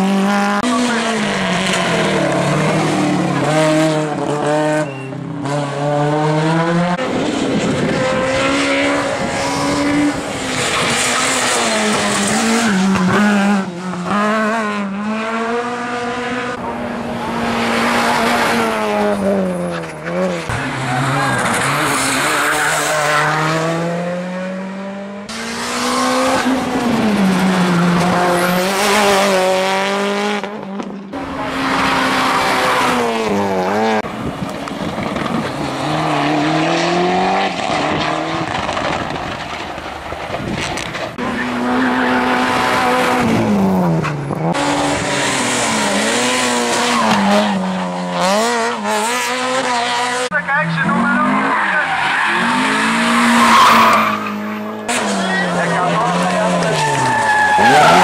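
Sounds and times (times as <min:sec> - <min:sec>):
race car engines revving past: 0:00.0 - 0:58.0.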